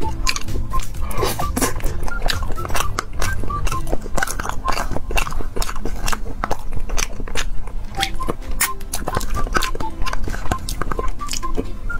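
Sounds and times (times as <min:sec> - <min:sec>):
wet mouth clicks and smacks: 0:00.0 - 0:11.8.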